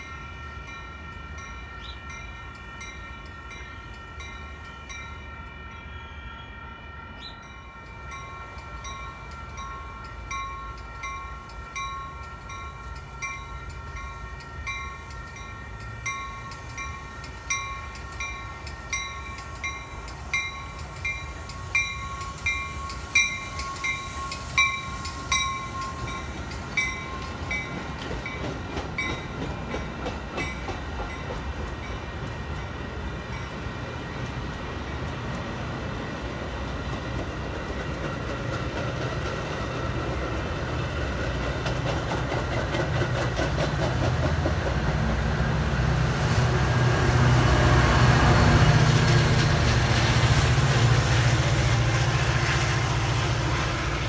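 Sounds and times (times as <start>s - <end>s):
train passing on rails: 0.0s - 54.0s
diesel locomotive rumble: 7.1s - 54.0s.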